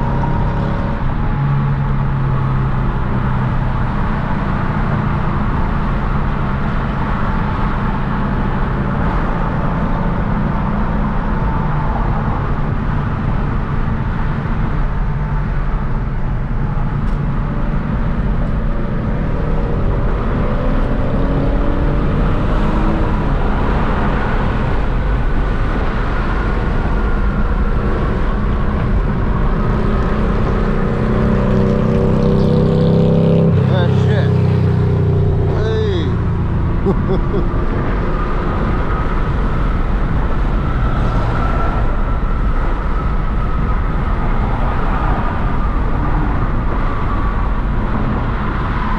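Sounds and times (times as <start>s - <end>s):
car engine accelerating: 0.0s - 48.9s
road noise: 0.0s - 48.9s.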